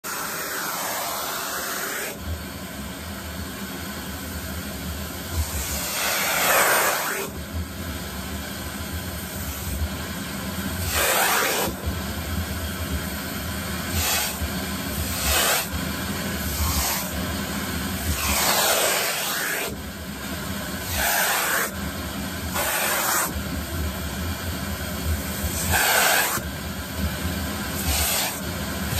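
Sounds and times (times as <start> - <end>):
vacuum cleaner sucking hair: 0.0 - 2.7, 3.4 - 28.9.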